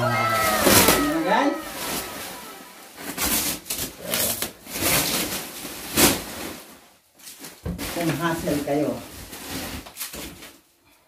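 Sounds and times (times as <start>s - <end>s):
plastic sheet rustling and crinkling: 0.3s - 10.8s.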